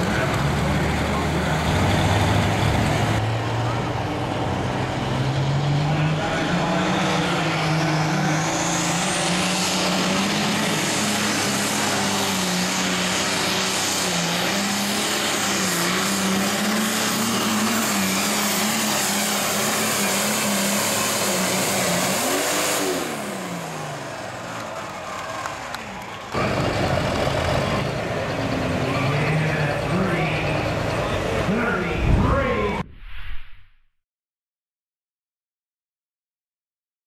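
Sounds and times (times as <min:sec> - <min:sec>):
tractor diesel engine full throttle: 0:00.0 - 0:32.7.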